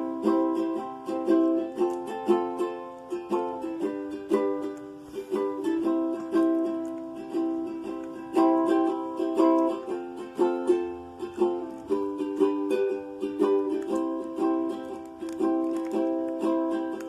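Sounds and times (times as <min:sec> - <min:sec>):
nylon-string guitar playing: 0:00.0 - 0:17.0.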